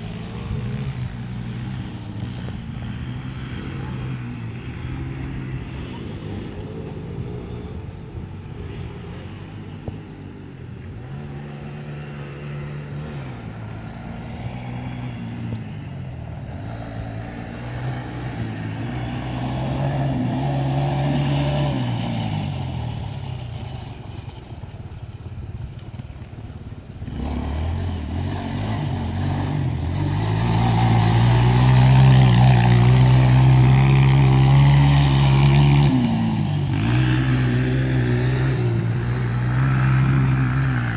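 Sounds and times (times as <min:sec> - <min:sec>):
motocross motorcycle engines revving: 0:00.0 - 0:40.9.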